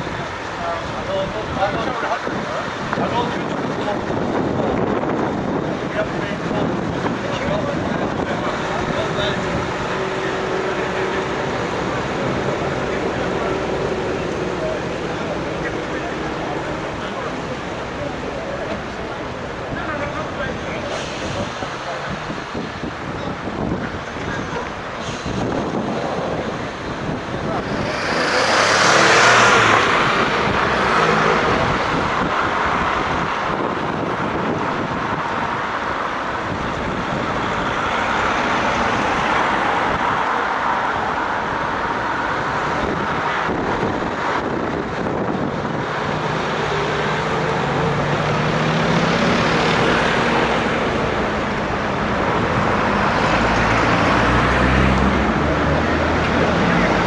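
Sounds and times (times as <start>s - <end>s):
lorry diesel engines running: 0.0s - 57.0s
road traffic rumble: 0.0s - 57.0s.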